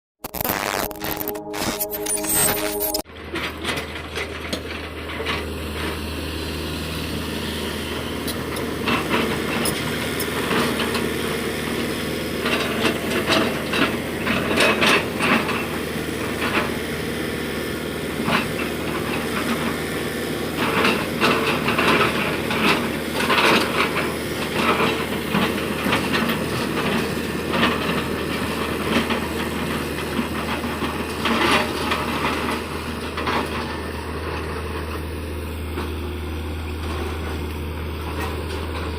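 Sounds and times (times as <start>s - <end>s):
heavy diesel equipment running: 3.1s - 38.9s.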